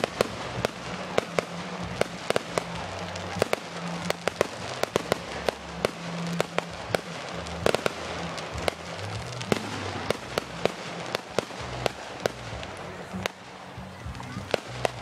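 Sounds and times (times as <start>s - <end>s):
fireworks crackling hiss: 0.0s - 15.0s
fireworks pops and bangs: 0.0s - 15.0s.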